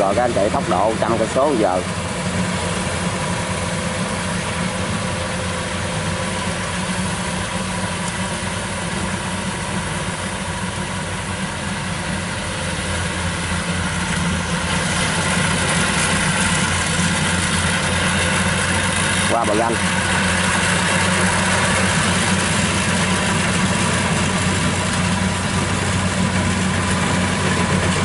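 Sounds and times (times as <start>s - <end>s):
tracked cart engine running: 0.0s - 28.0s.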